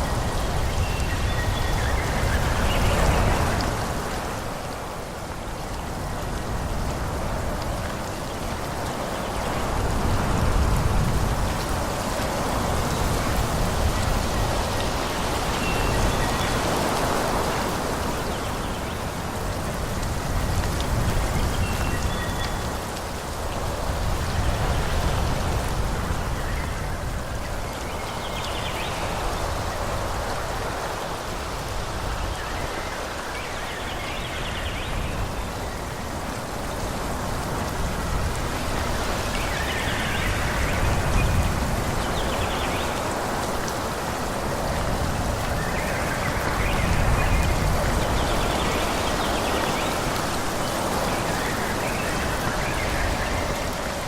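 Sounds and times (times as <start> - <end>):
leaves rustling in wind: 0.0 - 54.0
low rumble of wind: 0.0 - 54.0.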